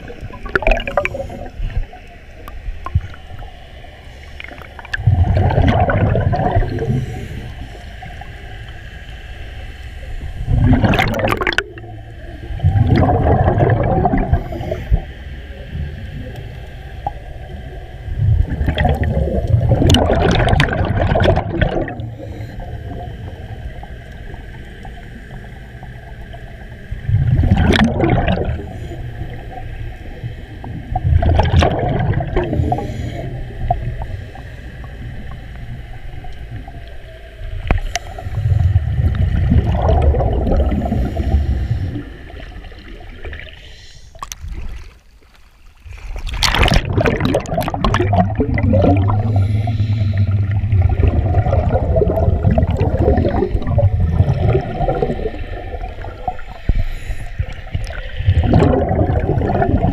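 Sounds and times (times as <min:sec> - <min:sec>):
underwater bubbles gurgling: 0:00.0 - 0:59.9.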